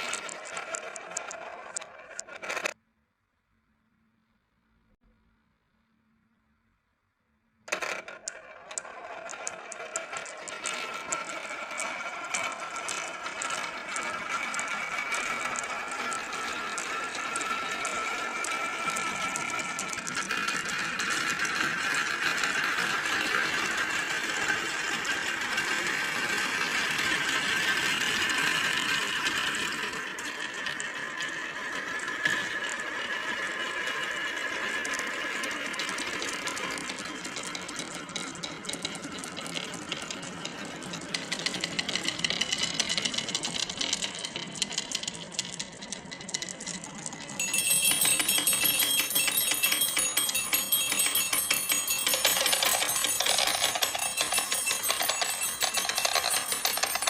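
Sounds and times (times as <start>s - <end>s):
marbles rattling along a track: 0.0s - 2.8s, 7.7s - 57.0s.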